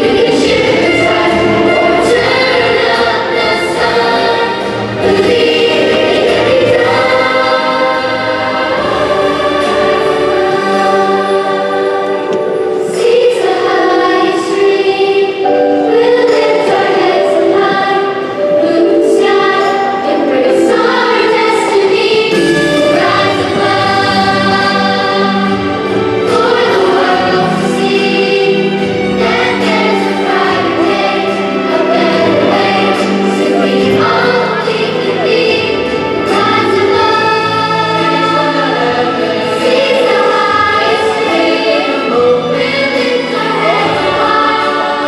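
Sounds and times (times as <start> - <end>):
children's choir singing: 0.0 - 45.0
instrumental accompaniment: 0.0 - 45.0.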